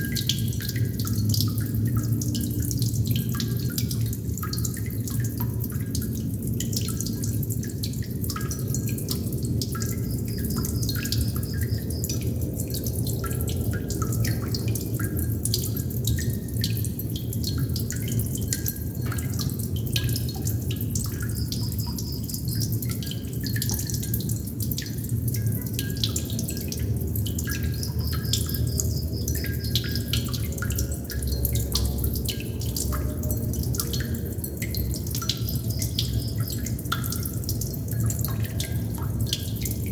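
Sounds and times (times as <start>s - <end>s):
water droplets plinking: 0.0s - 39.9s.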